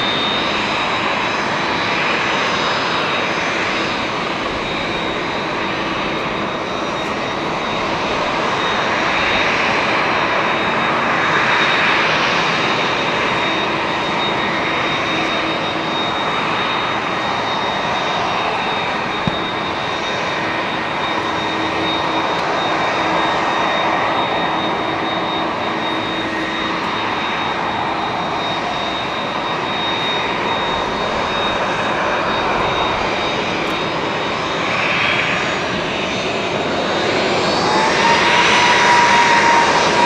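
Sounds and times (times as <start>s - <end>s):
distant jet engines whining: 0.0s - 40.0s.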